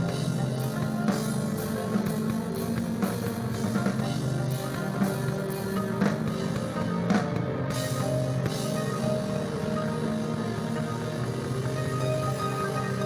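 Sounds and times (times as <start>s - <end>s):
drum kit and cymbals: 0.0s - 13.0s.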